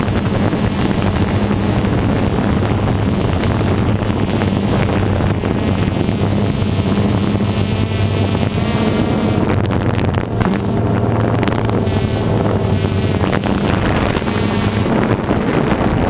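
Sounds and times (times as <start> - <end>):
drone propellers humming: 0.0 - 16.0
wind rushing over microphone: 0.0 - 16.0.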